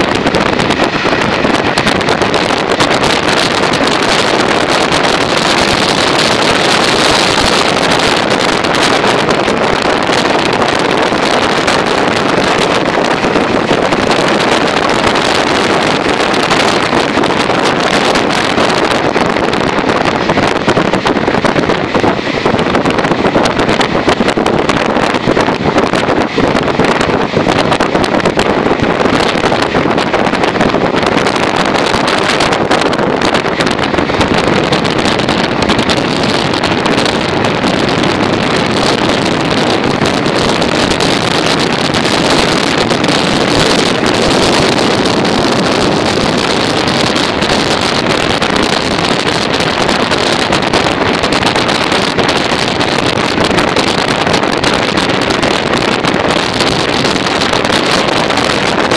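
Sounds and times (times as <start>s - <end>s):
train wheels rumbling on track: 0.0s - 58.9s
wind buffeting microphone: 0.0s - 58.9s.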